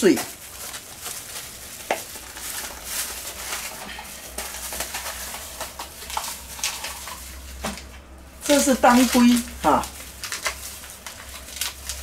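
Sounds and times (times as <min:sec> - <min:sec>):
plastic gloves crinkling: 0:00.0 - 0:12.0.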